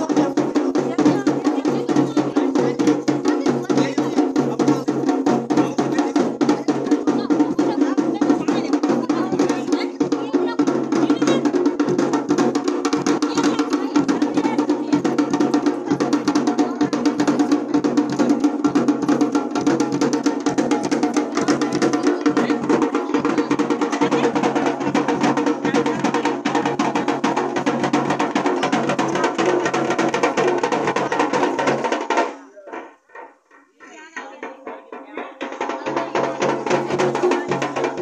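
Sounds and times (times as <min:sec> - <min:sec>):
fast drumming: 0:00.0 - 0:38.0.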